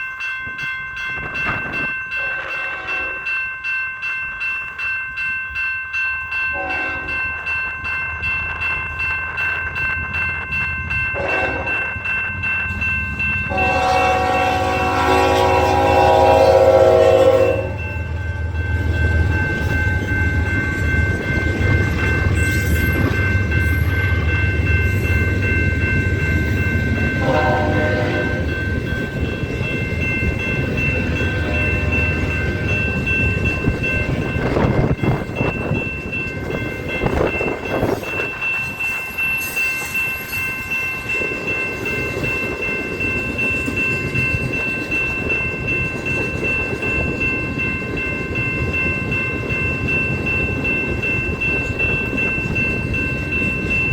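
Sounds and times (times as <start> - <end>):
train cars rattling on rails: 0.0 - 5.6, 6.3 - 53.9.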